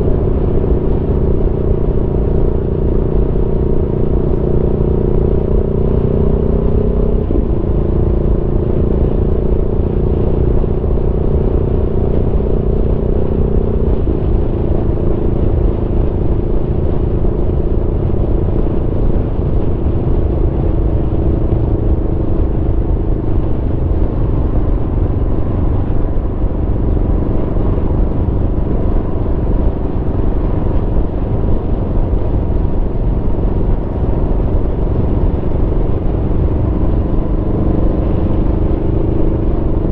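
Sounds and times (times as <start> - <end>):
motorcycle engine running: 0.0 - 39.9
wind and road rumble: 0.0 - 39.9.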